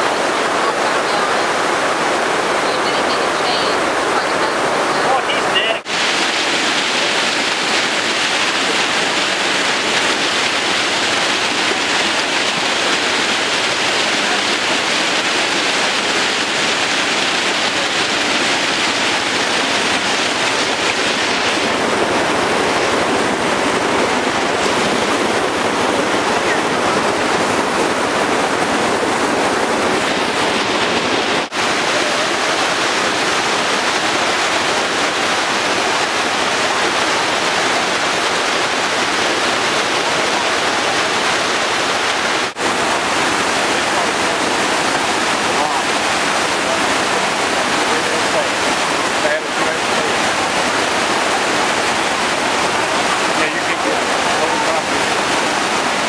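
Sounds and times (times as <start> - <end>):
flood water rushing: 0.0 - 56.0.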